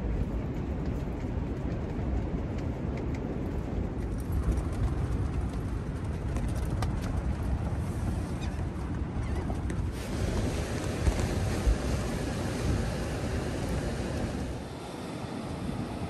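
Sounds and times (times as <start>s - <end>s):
strong wind buffeting tent: 0.0s - 16.0s.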